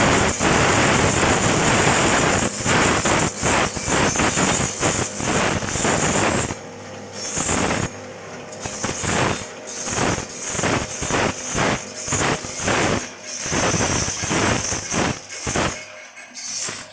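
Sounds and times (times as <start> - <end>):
skewer sharpening machine grinding: 0.0 - 16.9.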